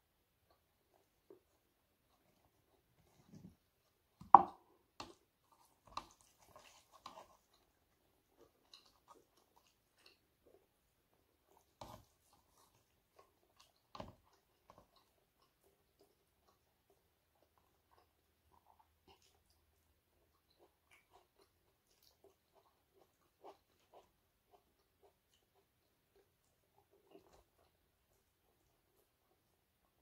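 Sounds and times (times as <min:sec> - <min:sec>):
food crunching and chewing: 0:00.3 - 0:30.0.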